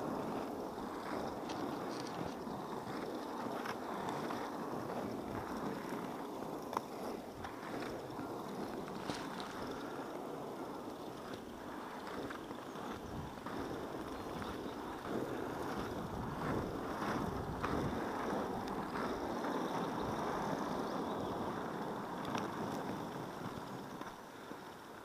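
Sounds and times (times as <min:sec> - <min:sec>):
wind on microphone: 0:00.0 - 0:24.6
skate wheels rolling on asphalt: 0:00.0 - 0:25.0.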